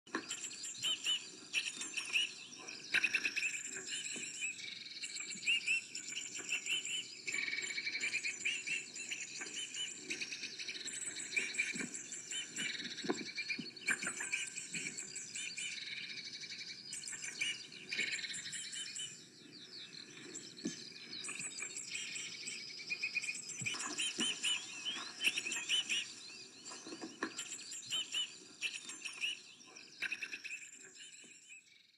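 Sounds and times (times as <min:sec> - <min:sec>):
birds singing and chirping: 0:00.1 - 0:31.8.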